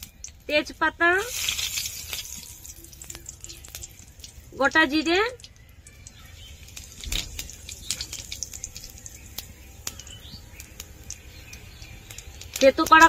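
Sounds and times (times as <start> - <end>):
spices crackling in hot oil: 0.0 - 13.0.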